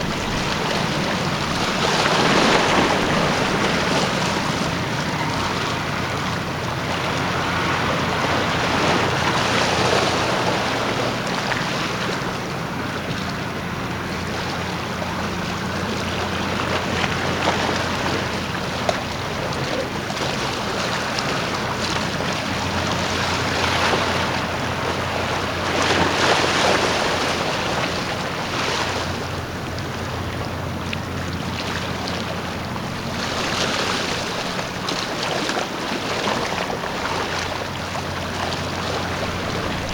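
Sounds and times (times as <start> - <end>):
low engine hum: 0.0 - 39.9
rushing water: 0.0 - 39.9
wind: 0.0 - 39.9
wind buffeting microphone: 0.0 - 39.9.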